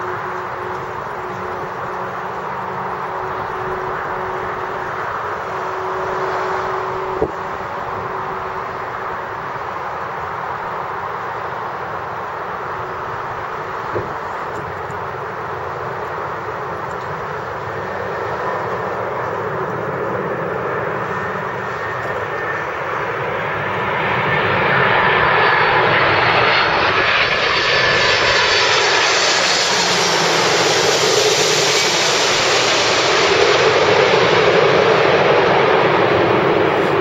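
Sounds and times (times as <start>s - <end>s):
jet airliner flying overhead: 0.0s - 37.0s.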